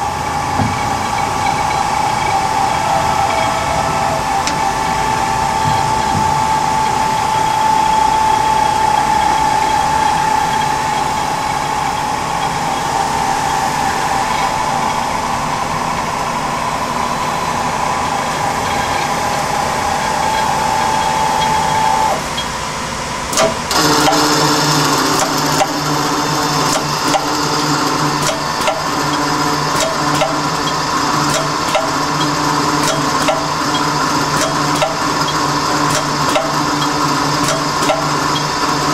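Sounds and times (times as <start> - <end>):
lathe running with whine: 0.0 - 38.9
machine hum with rapid ticking: 0.0 - 38.9.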